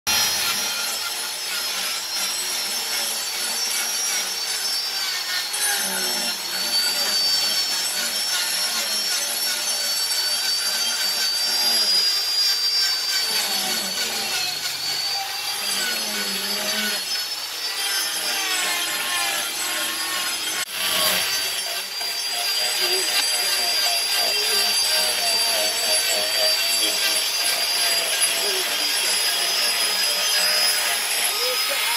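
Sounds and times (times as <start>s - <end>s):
angle grinder motor whine: 0.1s - 31.9s
wood rasping: 0.1s - 31.9s.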